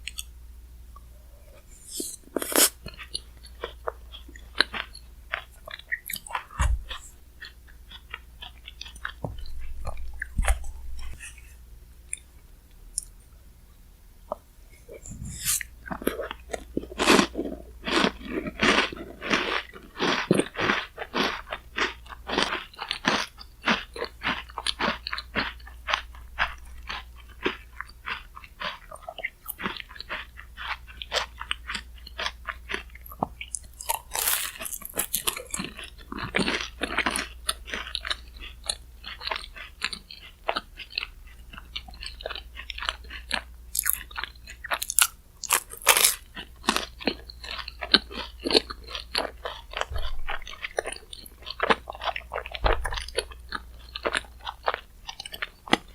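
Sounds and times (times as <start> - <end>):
chewing and crunching shaved ice: 1.9 - 11.5, 14.3 - 55.9.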